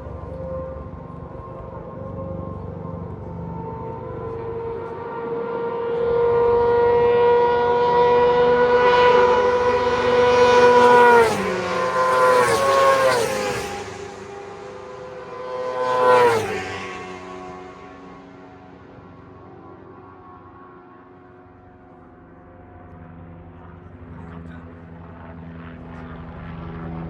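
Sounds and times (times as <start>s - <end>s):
racing motorcycles passing: 0.0s - 21.7s.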